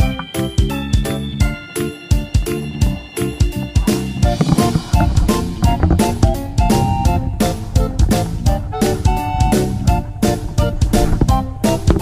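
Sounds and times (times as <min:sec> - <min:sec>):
upbeat keyboard and organ music: 0:00.0 - 0:12.0.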